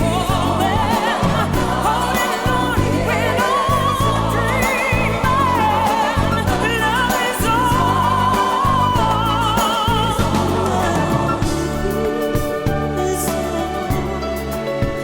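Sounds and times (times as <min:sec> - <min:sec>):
sustained bass chords: 0:00.0 - 0:14.5.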